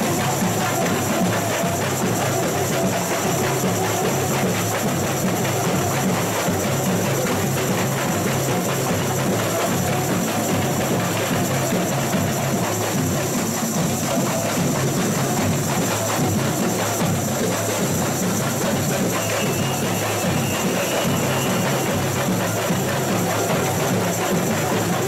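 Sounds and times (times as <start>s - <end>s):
samba drum section playing: 0.0s - 25.0s.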